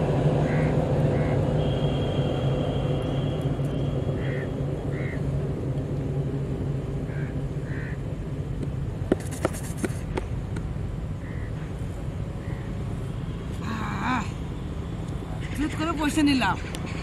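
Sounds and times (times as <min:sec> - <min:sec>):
distant engine hum: 0:00.0 - 0:17.0.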